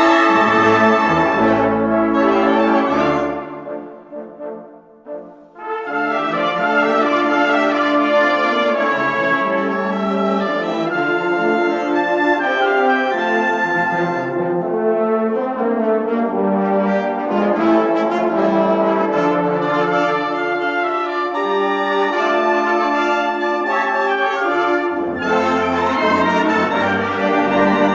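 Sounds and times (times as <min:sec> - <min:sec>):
brass band playing a hymn: 0:00.0 - 0:27.9.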